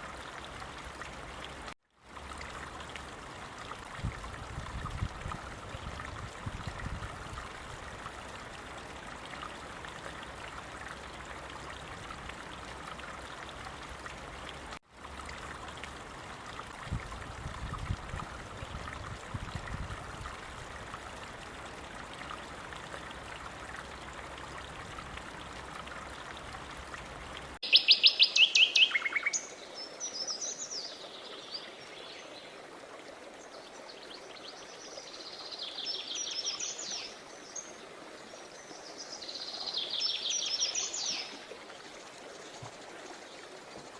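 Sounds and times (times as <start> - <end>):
stream water rushing: 0.0 - 43.9.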